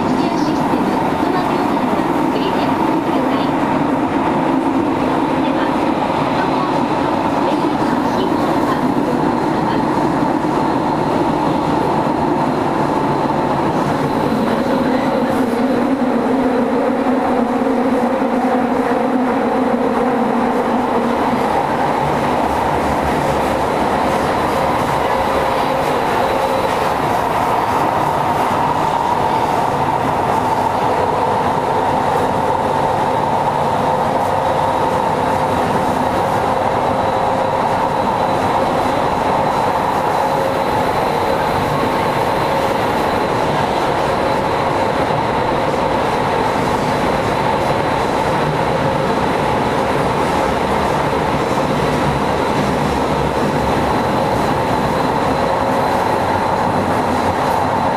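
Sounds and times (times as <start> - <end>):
train wheels running on rails: 0.0 - 57.9.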